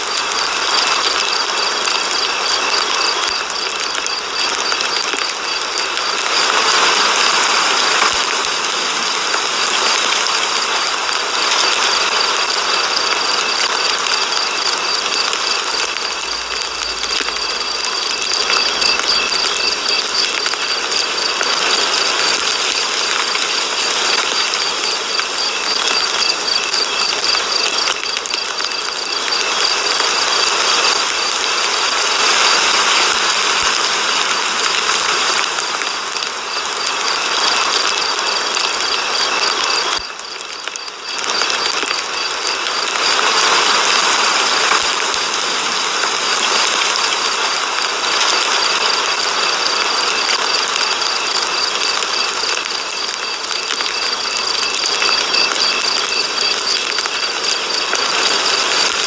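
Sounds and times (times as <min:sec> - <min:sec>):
rapid mechanical ticking: 0:00.0 - 0:59.0.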